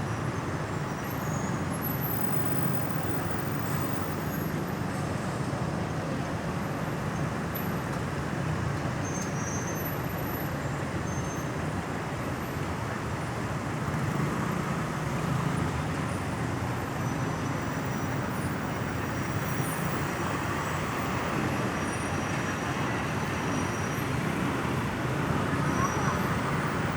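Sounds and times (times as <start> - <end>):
road traffic noise: 0.0 - 26.9.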